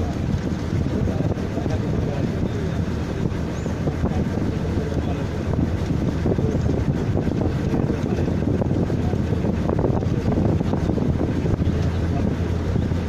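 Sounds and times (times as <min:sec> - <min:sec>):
vehicle engine rumble: 0:00.0 - 0:13.0
wind buffeting microphone: 0:00.0 - 0:13.0.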